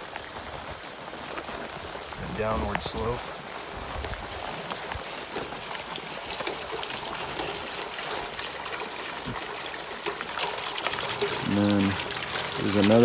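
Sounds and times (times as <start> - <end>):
rain drips and ticks: 0.0 - 13.0
water running through drain pipe: 0.0 - 13.0.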